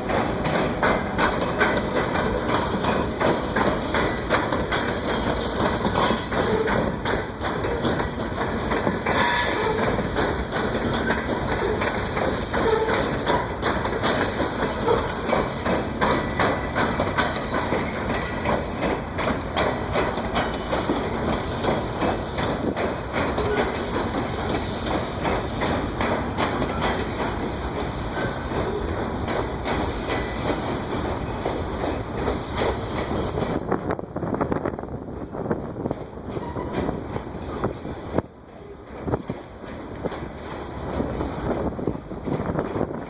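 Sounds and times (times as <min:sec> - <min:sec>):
wheels clicking over rail joints: 0:00.0 - 0:34.8
freight train rolling past: 0:00.0 - 0:43.0.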